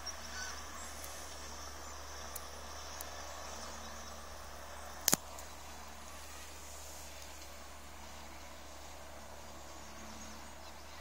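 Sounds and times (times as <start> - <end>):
gulls calling faintly: 0.0 - 11.0
low background noise: 0.0 - 11.0.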